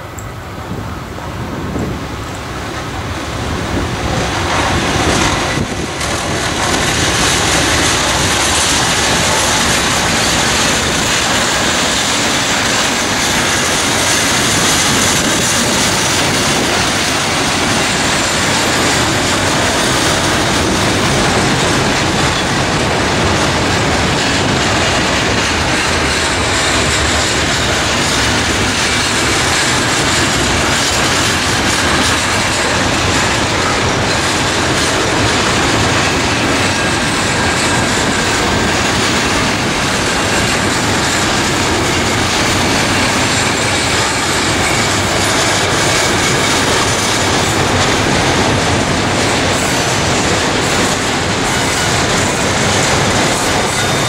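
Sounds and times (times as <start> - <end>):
train wagons rolling on rails: 0.0 - 54.0.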